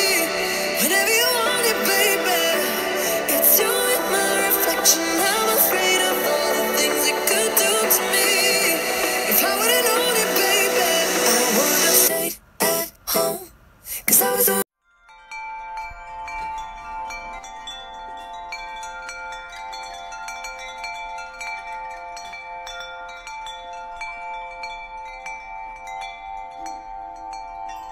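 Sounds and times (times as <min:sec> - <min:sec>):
wind chimes tinkling: 0:00.0 - 0:12.2, 0:14.8 - 0:27.9.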